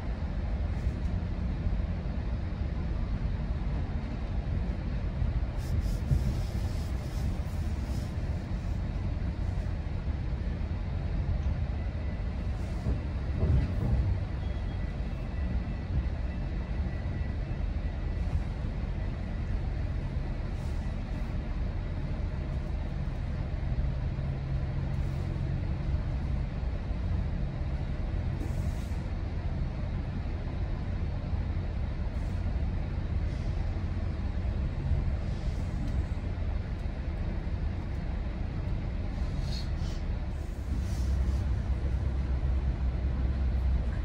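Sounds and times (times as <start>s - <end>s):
train rumble inside coach: 0.0s - 44.0s.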